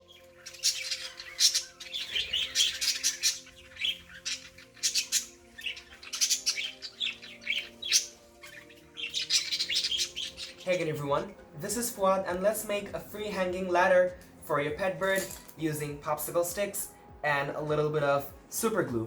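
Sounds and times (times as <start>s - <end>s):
budgerigars chirping and chattering: 0.0s - 19.0s.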